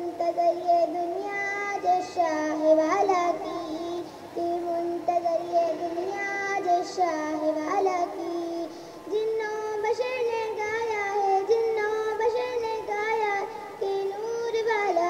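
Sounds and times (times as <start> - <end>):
child singing devotional song: 0.0 - 15.0.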